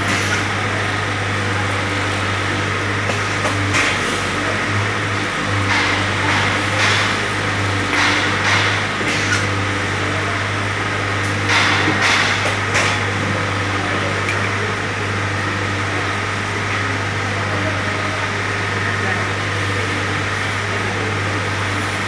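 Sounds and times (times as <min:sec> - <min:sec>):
workshop machinery hum: 0:00.0 - 0:22.0.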